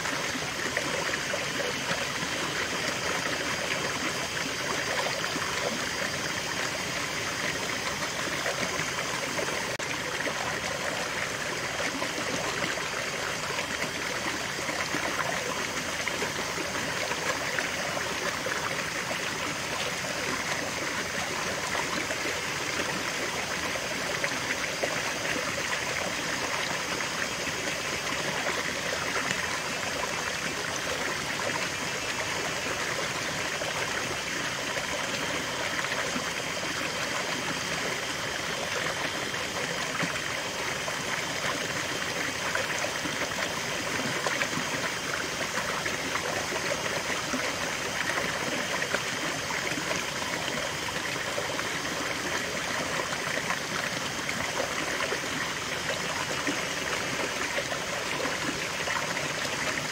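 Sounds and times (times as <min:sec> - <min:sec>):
water splashing over rocks: 0:00.0 - 0:59.9.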